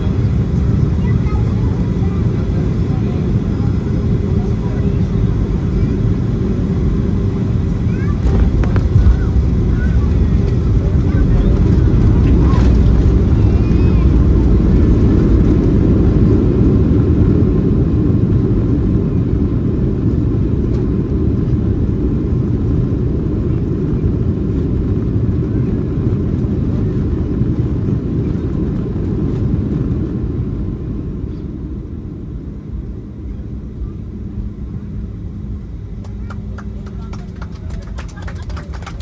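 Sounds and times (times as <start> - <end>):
airliner cabin engine and runway roar: 0.0 - 39.0.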